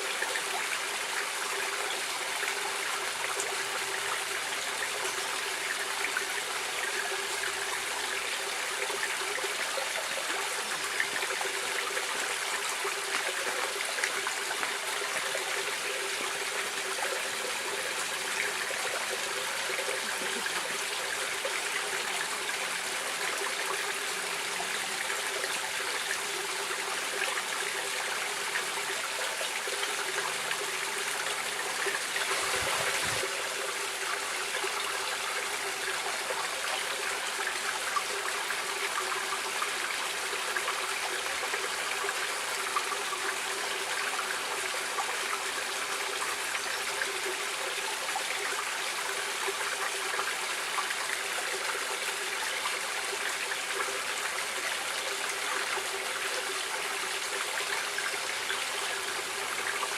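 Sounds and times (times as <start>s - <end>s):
stream water running and splashing: 0.0s - 59.9s.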